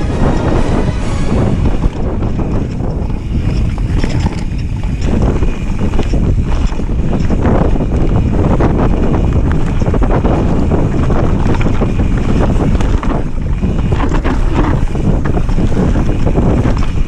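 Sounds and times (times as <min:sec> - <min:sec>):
mountain bike rumble and rattle: 0:00.0 - 0:17.0
wind buffeting microphone: 0:00.0 - 0:17.0.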